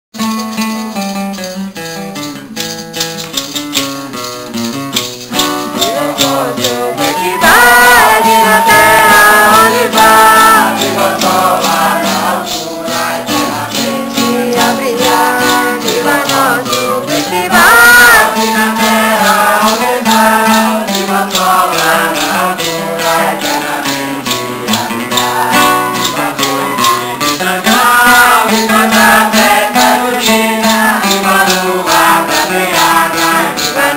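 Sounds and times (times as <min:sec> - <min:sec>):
acoustic guitar: 0:00.1 - 0:33.9
maraca shaking: 0:00.2 - 0:33.9
people singing a hymn: 0:05.7 - 0:33.9.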